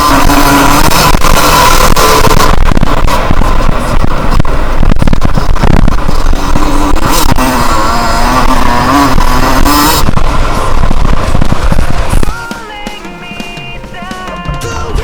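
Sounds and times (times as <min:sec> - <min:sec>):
wind buffeting microphone: 0:00.0 - 0:13.2
two-stroke motorcycle engine: 0:00.0 - 0:15.0.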